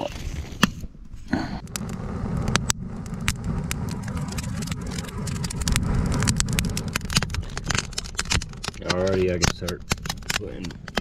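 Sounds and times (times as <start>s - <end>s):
bellows fanning flames: 0.0s - 11.0s
burning kindling crackling: 0.0s - 11.0s.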